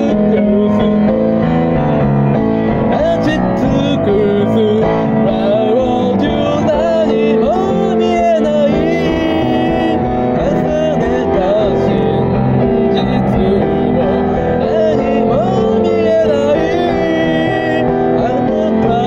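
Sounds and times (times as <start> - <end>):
person singing: 0.0 - 1.9, 2.8 - 19.0
acoustic guitar chords: 0.0 - 19.0.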